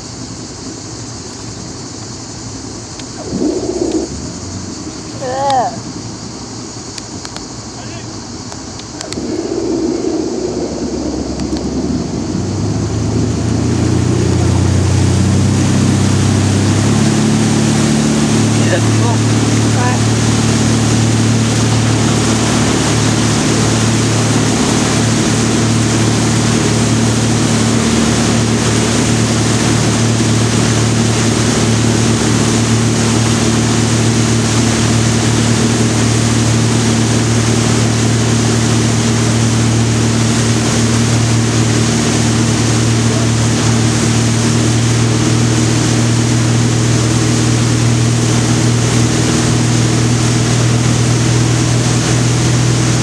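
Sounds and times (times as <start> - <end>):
boat engine running: 0.0 - 53.0
wind: 0.0 - 53.0
rushing water: 3.1 - 5.7, 9.0 - 53.0.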